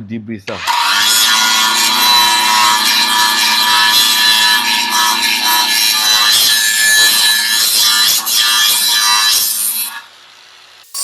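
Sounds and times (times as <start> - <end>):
angle grinder grinding: 0.5 - 10.2.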